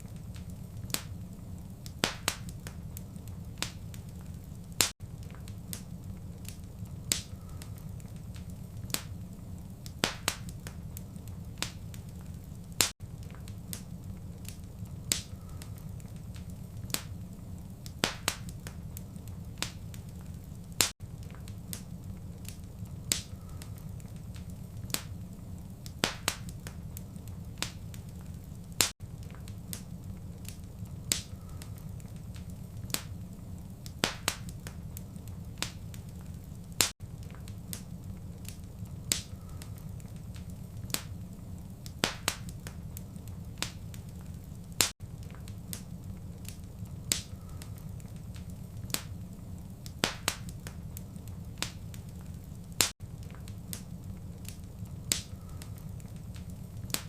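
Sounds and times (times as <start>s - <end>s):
low rumble of fire: 0.0s - 57.0s
wood fire crackling: 0.0s - 57.0s.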